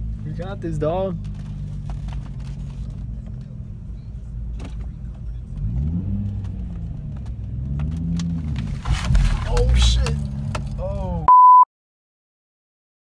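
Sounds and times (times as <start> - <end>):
car engine revving under load: 0.0 - 11.3.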